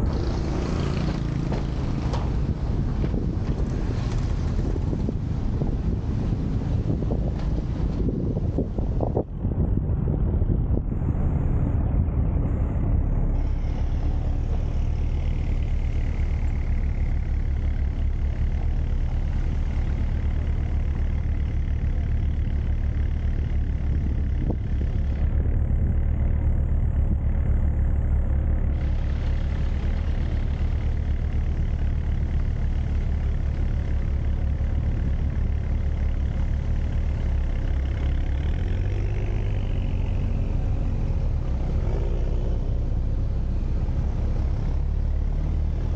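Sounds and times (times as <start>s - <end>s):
vehicle engine and road rumble: 0.0s - 45.9s.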